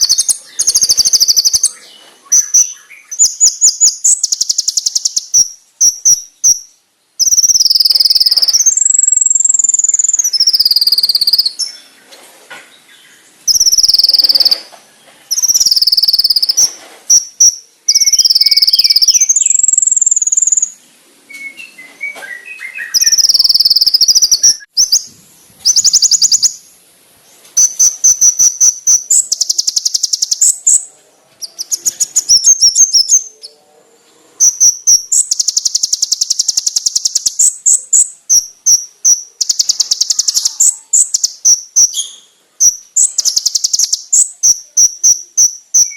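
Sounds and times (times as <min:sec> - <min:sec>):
sunbird singing with rapid trills: 0:00.0 - 0:12.1, 0:12.8 - 0:26.8, 0:27.6 - 0:33.7, 0:34.4 - 0:45.9.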